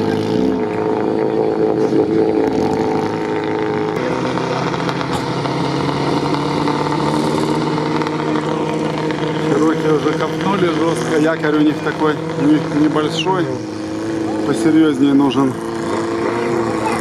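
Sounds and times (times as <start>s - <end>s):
vehicle engines under load: 0.0s - 17.0s.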